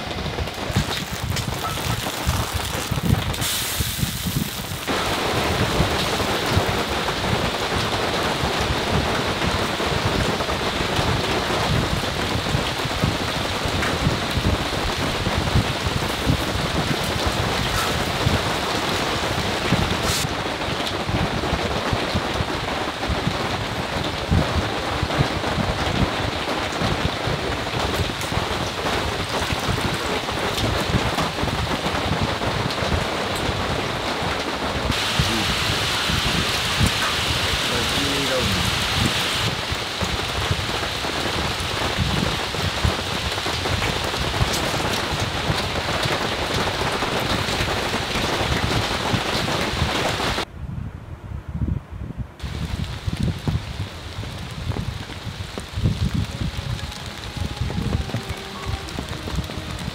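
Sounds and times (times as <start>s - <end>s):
rain pattering on a van roof: 0.0s - 50.5s, 52.4s - 59.9s.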